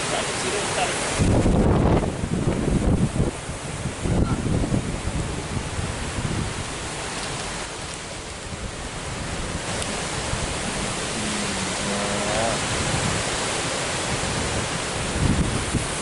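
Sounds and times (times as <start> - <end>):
wind rushing over microphone: 0.8 - 16.0.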